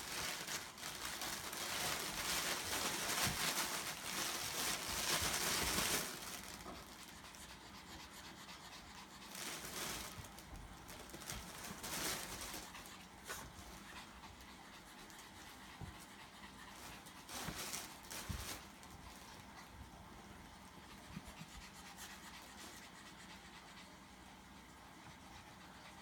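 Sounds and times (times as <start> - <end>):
small dog panting: 1.1 - 18.0, 18.6 - 26.0.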